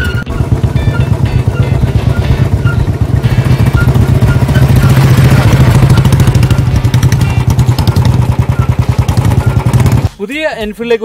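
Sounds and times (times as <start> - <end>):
motorcycle engine passing: 0.0 - 10.2.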